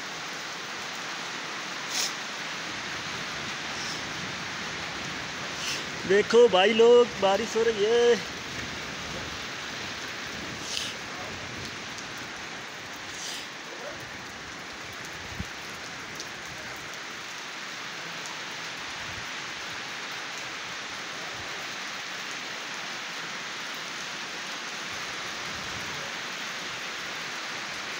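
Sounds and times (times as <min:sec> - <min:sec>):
rain on concrete rooftop: 0:00.0 - 0:27.9.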